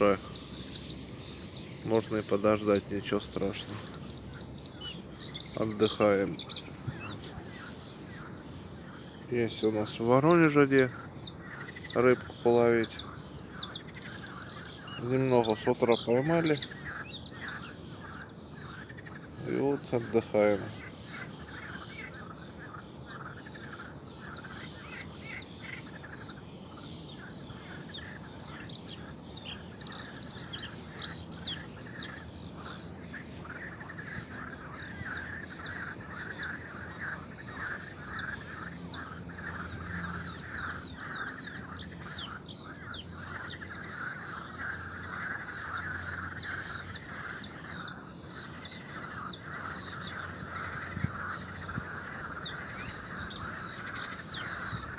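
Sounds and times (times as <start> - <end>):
birds chirping and singing: 0.0 - 54.9.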